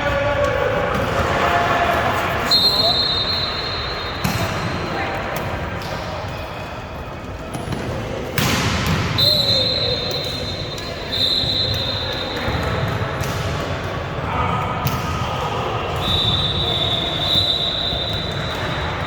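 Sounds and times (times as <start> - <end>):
players and spectators voices: 0.0 - 19.0.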